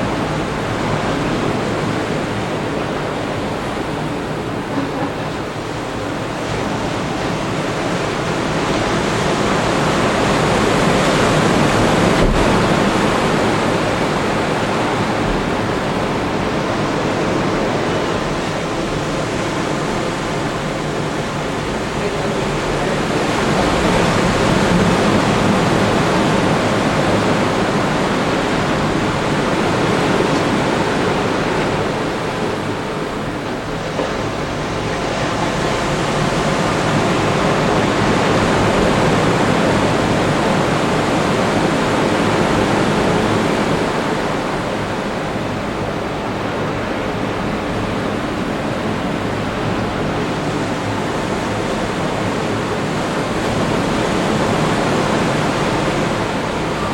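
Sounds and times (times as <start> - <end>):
ocean surf breaking: 0.0 - 56.9.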